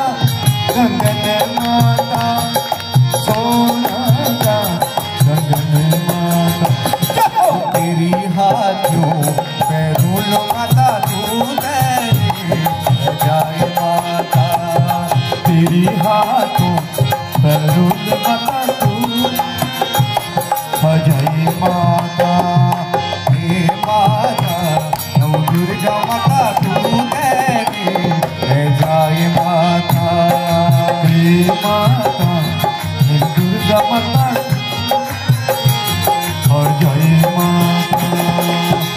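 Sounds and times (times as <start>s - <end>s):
harmonium melody: 0.0s - 38.9s
tabla rhythm: 0.0s - 38.9s.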